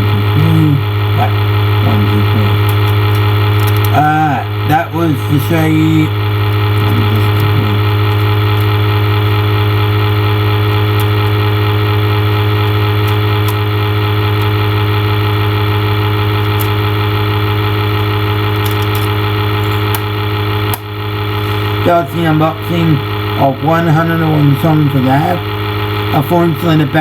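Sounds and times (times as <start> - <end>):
electrical buzzing hum: 0.0 - 27.0.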